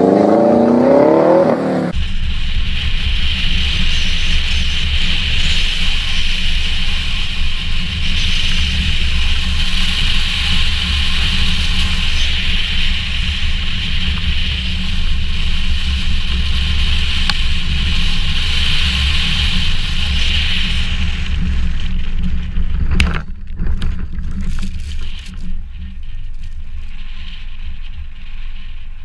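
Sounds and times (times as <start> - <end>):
car driving on snowy road: 0.0 - 29.0.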